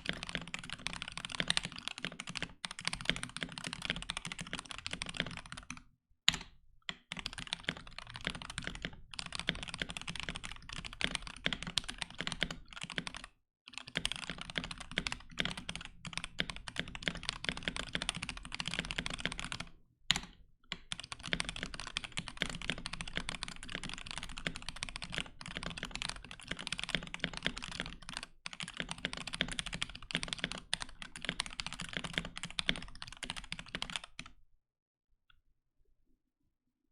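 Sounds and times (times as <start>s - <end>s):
fast mechanical keyboard typing: 0.0s - 19.7s, 20.7s - 34.3s.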